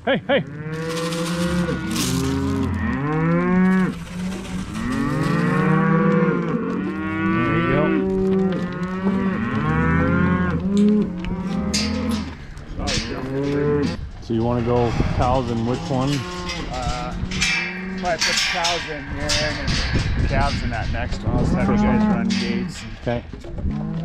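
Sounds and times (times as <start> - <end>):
cows and calves bawling: 0.0 - 24.0.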